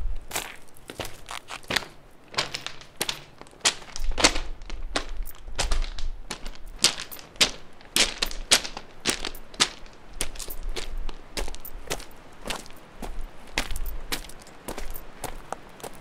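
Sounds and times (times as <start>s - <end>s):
footsteps crunching on gravel: 0.2s - 16.0s.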